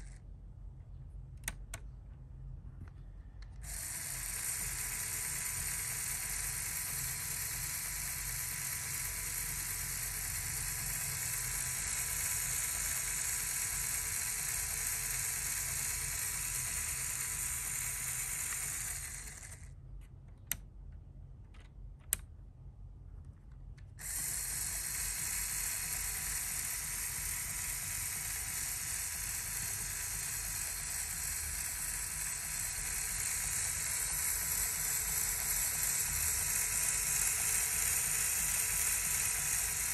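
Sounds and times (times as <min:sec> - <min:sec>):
toy motor and gear clatter: 0:00.0 - 0:00.2, 0:03.4 - 0:20.6, 0:23.9 - 0:39.9.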